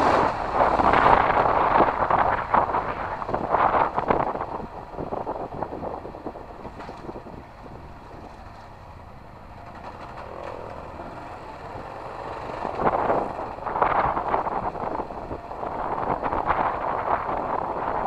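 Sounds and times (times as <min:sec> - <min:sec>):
motorcycle engine rumbling: 0:00.0 - 0:18.0
rough rushing wind noise: 0:00.0 - 0:18.0.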